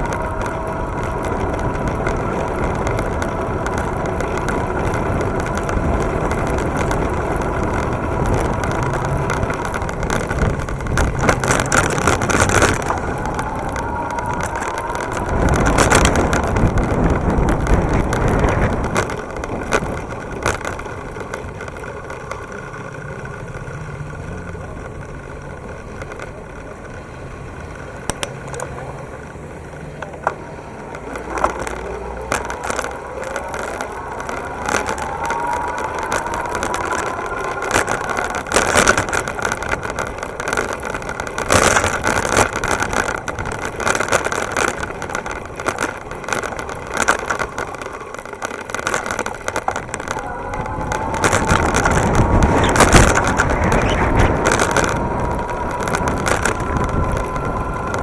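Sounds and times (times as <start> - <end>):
bike tyres rumbling on pavement: 0.0 - 58.0
wind: 0.0 - 58.0.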